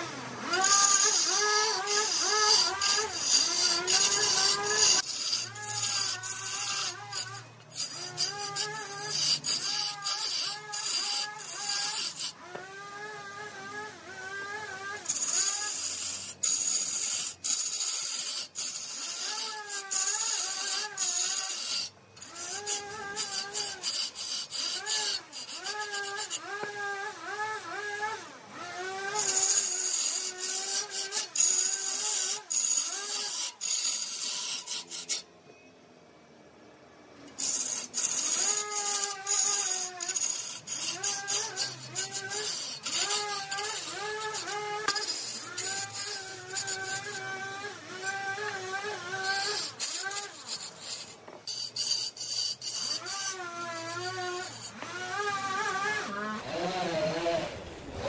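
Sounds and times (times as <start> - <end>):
chisel cutting wood on a lathe: 0.0 - 35.3, 37.3 - 57.6
wavering squeal of turning wood: 0.0 - 35.8, 37.2 - 58.0.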